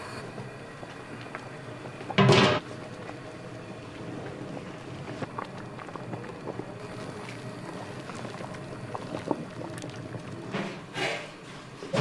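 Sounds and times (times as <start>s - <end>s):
stock boiling and bubbling: 0.0s - 12.0s.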